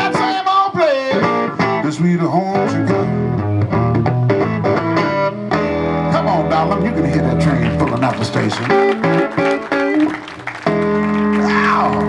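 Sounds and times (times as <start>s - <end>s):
blues band playing: 0.0s - 12.0s
guitar picking: 0.0s - 12.0s.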